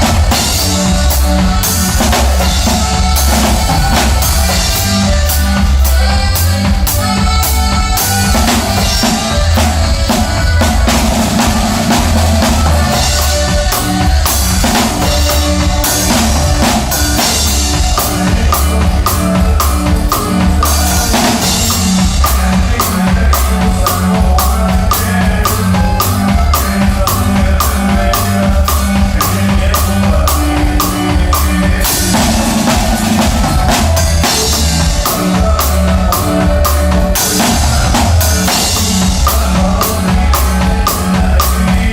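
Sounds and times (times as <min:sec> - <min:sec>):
drum kit beat: 0:00.0 - 0:41.9
live band playing: 0:00.0 - 0:41.9.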